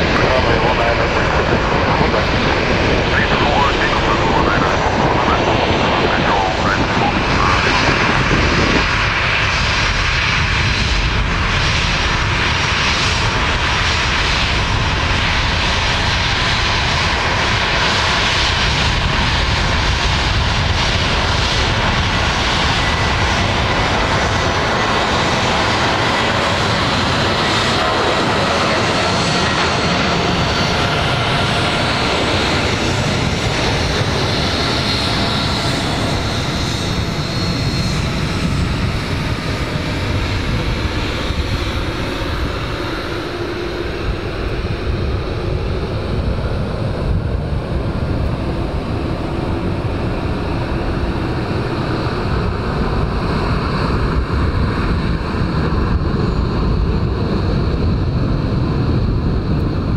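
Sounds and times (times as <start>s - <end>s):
jet engine roar: 0.0s - 59.9s
jet engine whine: 0.0s - 59.9s.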